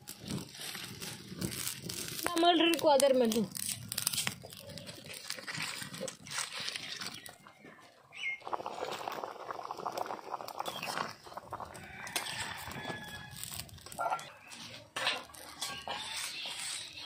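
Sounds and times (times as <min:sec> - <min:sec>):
curry bubbling: 0:00.0 - 0:17.0.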